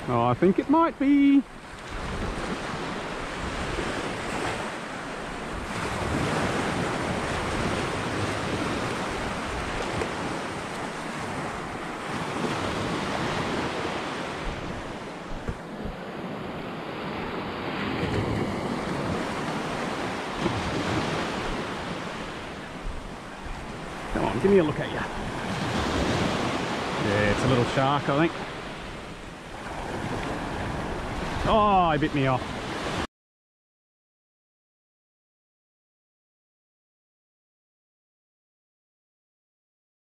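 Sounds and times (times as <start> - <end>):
small waves breaking on sand: 0.0 - 33.1.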